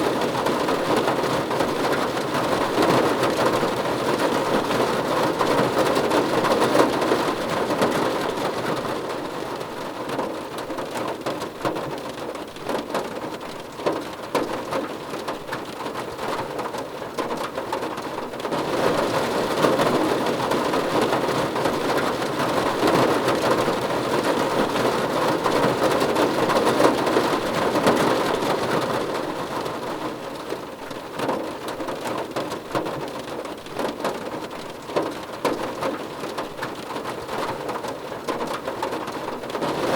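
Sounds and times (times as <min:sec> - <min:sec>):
rain pattering on car roof: 0:00.0 - 0:39.9.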